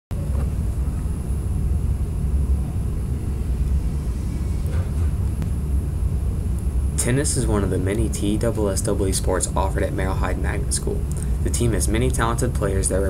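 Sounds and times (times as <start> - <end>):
low background rumble: 0.2 - 13.0.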